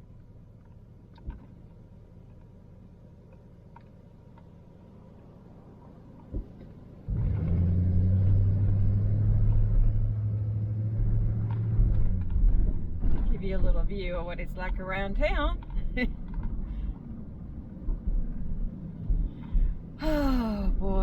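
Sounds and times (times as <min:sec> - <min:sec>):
van engine and road rumble: 0:00.0 - 0:21.0.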